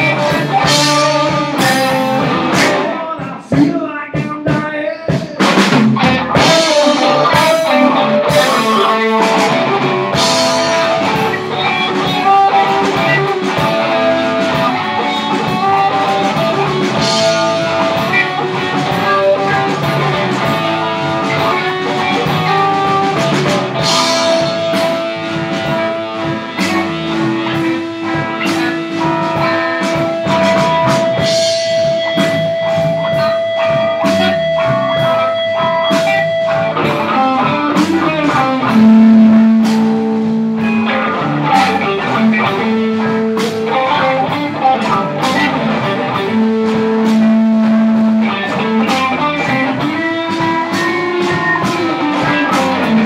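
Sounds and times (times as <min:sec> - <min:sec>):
guitar held notes: 0:00.0 - 0:03.0, 0:06.0 - 0:53.0
blues band playing: 0:00.0 - 0:53.0.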